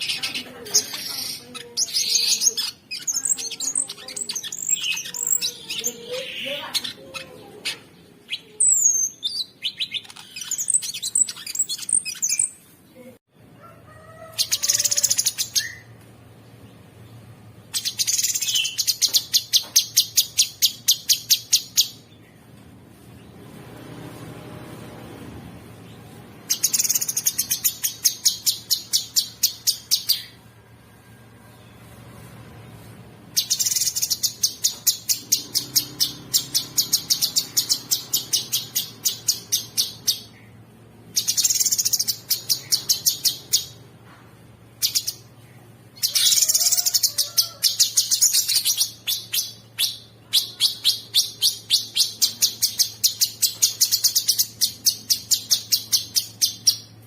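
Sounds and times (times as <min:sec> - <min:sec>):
bird singing rattling song: 0:00.0 - 0:13.0, 0:14.4 - 0:23.4, 0:25.7 - 0:30.4, 0:33.3 - 0:43.9, 0:44.7 - 0:57.0.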